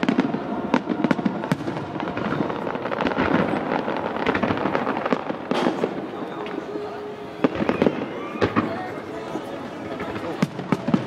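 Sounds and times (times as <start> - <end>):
crackling rumble: 0.0 - 11.0
fireworks cracking and popping: 0.0 - 11.0.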